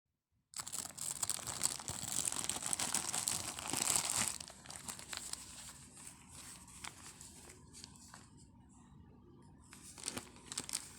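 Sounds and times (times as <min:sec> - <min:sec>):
plastic packaging crinkling: 0:00.6 - 0:08.2, 0:09.7 - 0:10.9.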